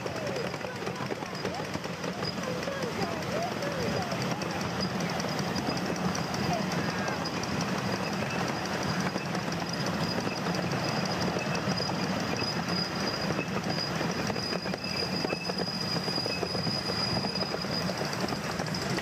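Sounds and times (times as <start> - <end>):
high-pitched wheel squeal: 0.0 - 19.0
train wheels rattling on rails: 0.0 - 19.0.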